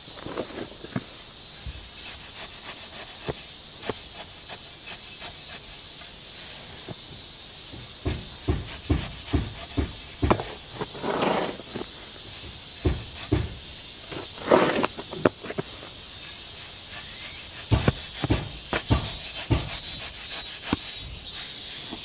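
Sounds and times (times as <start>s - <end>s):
tool scraping gritty mortar mix: 1.6s - 6.9s, 8.0s - 21.5s.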